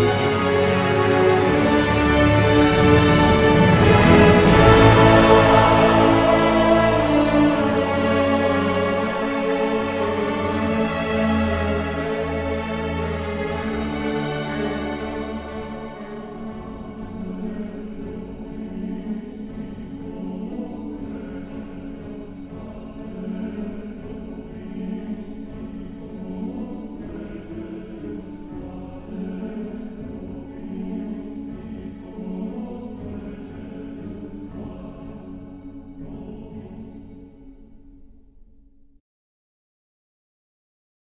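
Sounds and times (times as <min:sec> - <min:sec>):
slow background music: 0:00.0 - 0:38.8.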